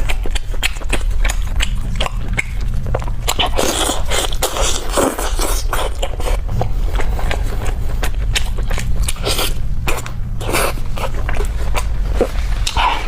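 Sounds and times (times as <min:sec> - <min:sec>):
person chewing meat: 0:00.0 - 0:13.0.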